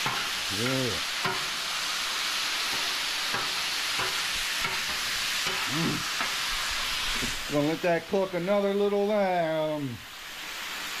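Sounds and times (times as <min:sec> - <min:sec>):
chicken sizzling on a griddle: 0:00.0 - 0:11.0.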